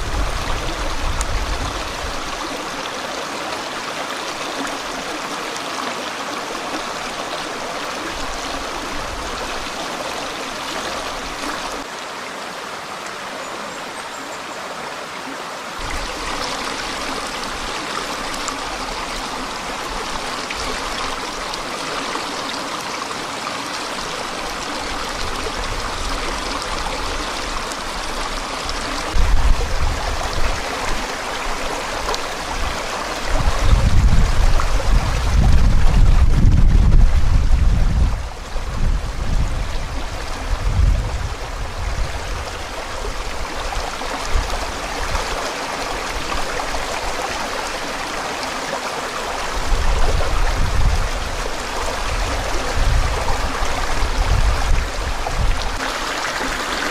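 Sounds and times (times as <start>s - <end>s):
stream babbling: 0.0s - 56.9s.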